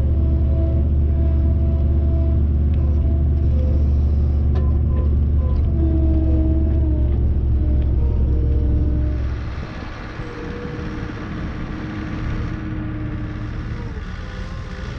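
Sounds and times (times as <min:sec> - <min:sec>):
skid steer engine running: 0:00.0 - 0:14.9.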